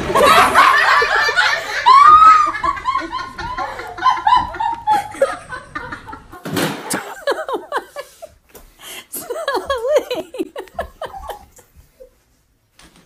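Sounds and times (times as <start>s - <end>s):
person laughing loudly: 0.0s - 8.3s, 9.0s - 12.1s.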